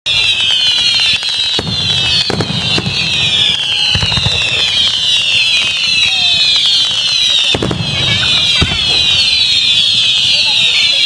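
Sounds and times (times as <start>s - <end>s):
firework bangs: 0.1s - 11.0s
firework whistles: 0.1s - 11.0s.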